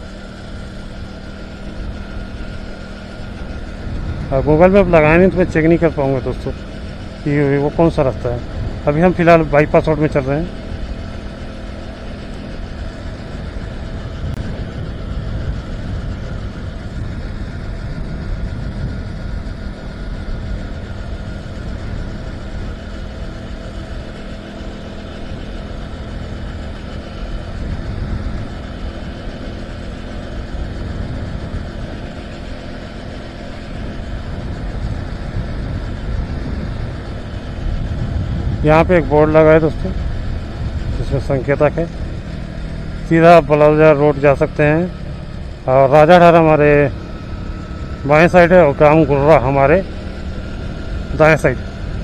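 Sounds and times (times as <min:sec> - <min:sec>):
motorcycle engine humming: 0:00.0 - 0:52.0
wind and road noise: 0:00.0 - 0:52.0.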